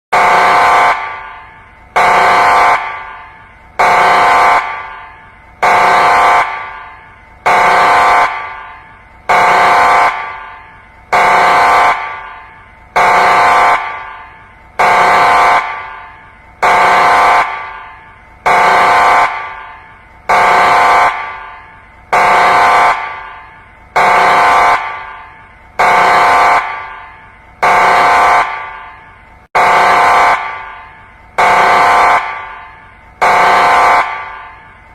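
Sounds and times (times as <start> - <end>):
harsh horn-like alarm blasts: 0.1 - 34.9.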